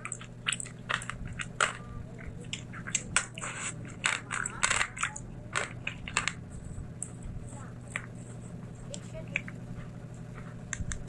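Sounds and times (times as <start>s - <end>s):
crunching crisp food: 0.0s - 11.0s.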